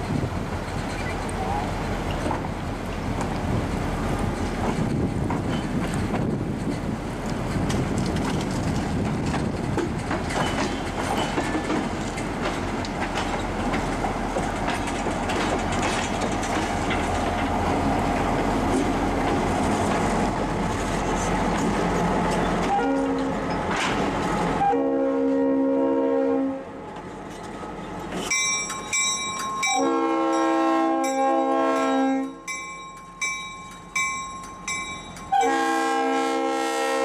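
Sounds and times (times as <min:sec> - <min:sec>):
locomotive hum: 0:00.0 - 0:37.0
train wheels rumbling on rails: 0:00.0 - 0:37.0.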